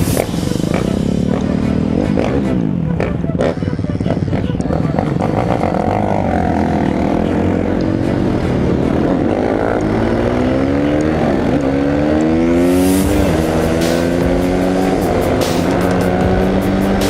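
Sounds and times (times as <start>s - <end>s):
off-road engine accelerating: 0.0s - 17.0s.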